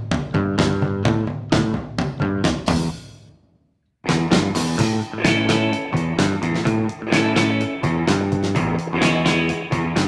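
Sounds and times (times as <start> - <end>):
song with guitar and drums: 0.0 - 3.2, 4.0 - 10.0.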